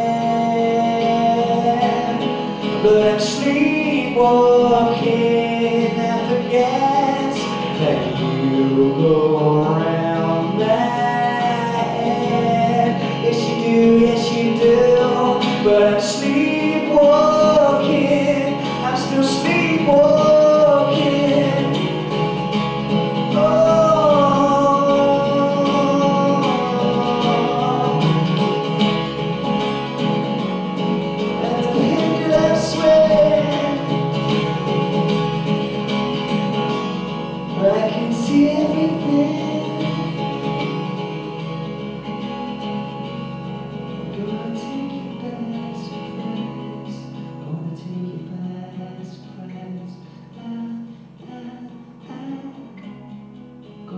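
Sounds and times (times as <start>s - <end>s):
man singing into a microphone: 0.0s - 29.0s, 31.3s - 35.1s, 36.8s - 41.1s, 44.0s - 53.0s
strummed acoustic guitar: 0.0s - 53.9s.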